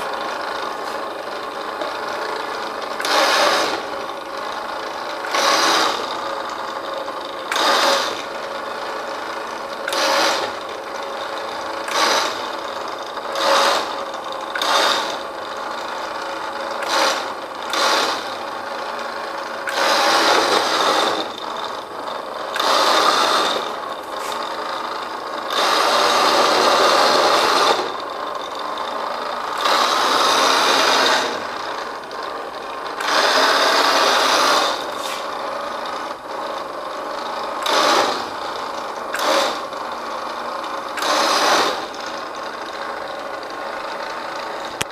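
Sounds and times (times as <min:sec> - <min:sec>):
toy car motor whirring: 0:00.0 - 0:44.9.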